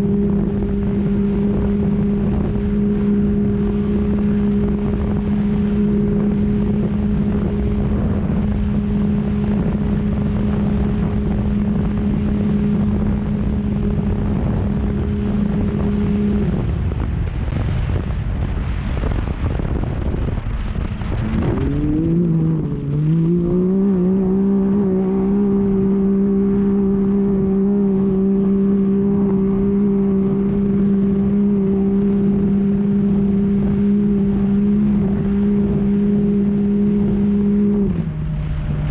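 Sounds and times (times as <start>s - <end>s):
engine at high revs: 0.0s - 38.9s
wind and terrain noise: 0.0s - 38.9s.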